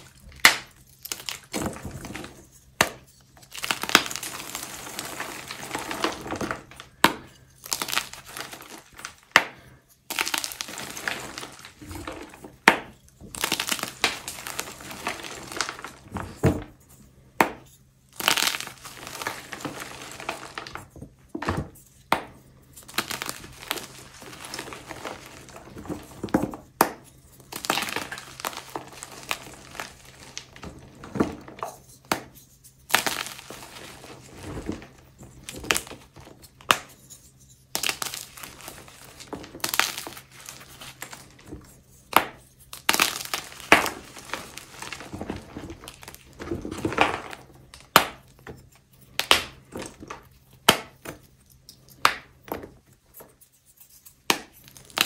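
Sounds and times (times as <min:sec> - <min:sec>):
gritty crumbling: 0:00.0 - 0:53.2
chalk blocks cracking: 0:00.1 - 0:16.5, 0:17.4 - 0:55.0.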